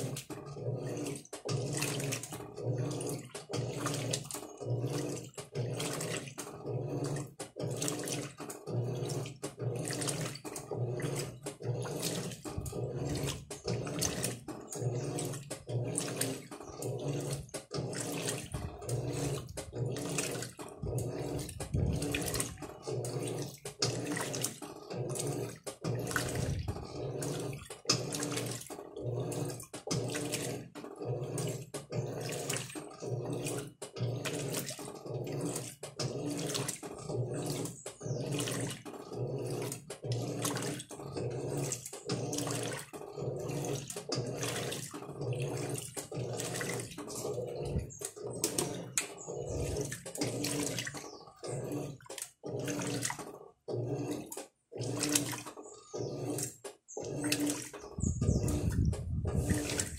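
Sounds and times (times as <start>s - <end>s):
washing machine motor humming: 0.0s - 59.9s
water sloshing: 0.0s - 59.9s.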